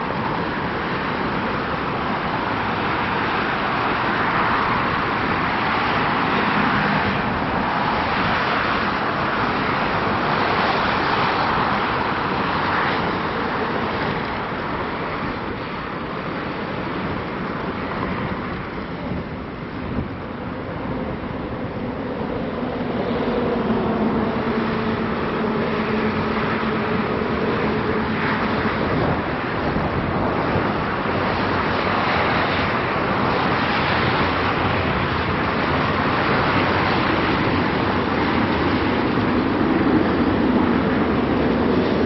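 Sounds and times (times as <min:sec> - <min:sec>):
highway traffic roar: 0:00.0 - 0:42.0
low engine hum: 0:00.0 - 0:42.0.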